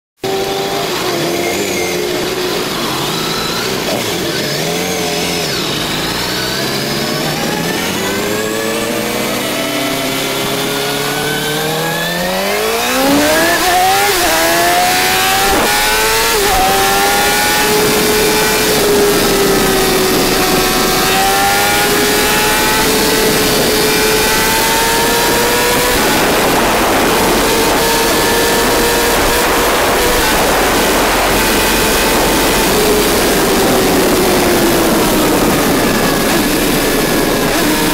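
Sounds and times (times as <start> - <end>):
motorcycle engine at full throttle: 0.2 - 37.9
wind rush on microphone: 7.2 - 37.9.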